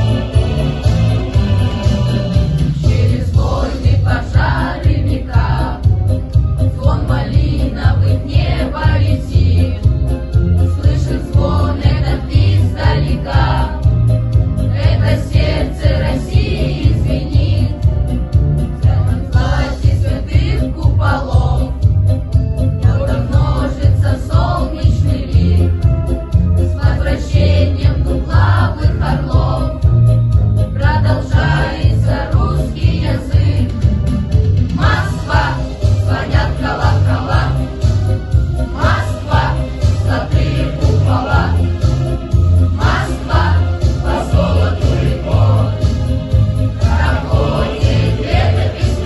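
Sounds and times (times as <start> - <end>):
children's choir singing: 0.0 - 6.0, 6.6 - 10.0, 10.7 - 14.1, 14.7 - 17.9, 18.7 - 21.8, 22.8 - 25.8, 26.7 - 30.1, 30.8 - 33.9, 34.7 - 49.0
backing track with steady beat: 0.0 - 49.0.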